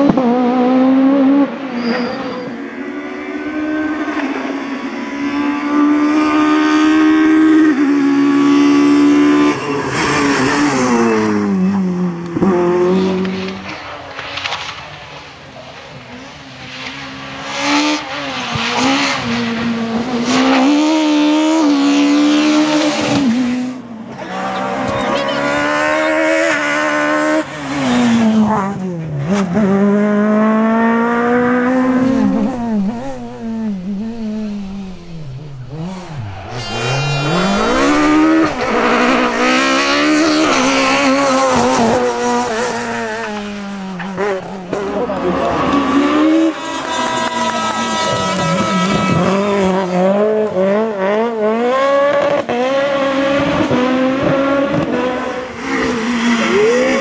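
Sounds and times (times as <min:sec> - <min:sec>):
rally car engines at full throttle: 0:00.0 - 0:57.0.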